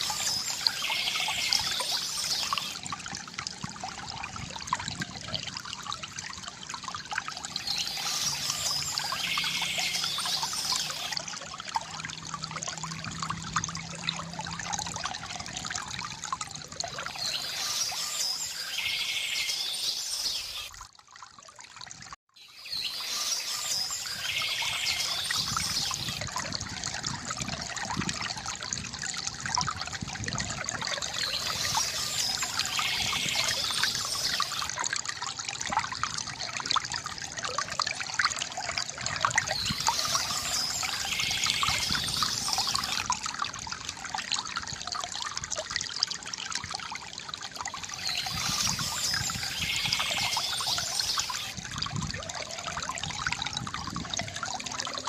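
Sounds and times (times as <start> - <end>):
water trickling from fountain spout: 0.0 - 55.0.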